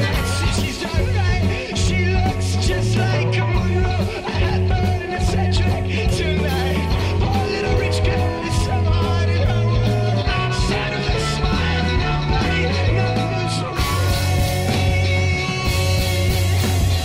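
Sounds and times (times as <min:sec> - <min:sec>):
drums with cymbal hits: 0:00.0 - 0:17.0
heavy bass line: 0:00.0 - 0:17.0
psychedelic rock band playing: 0:00.0 - 0:17.0.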